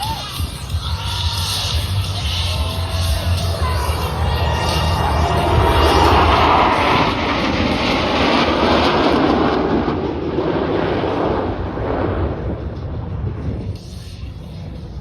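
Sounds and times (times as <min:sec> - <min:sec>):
jet engine roar passing: 0:00.0 - 0:15.0.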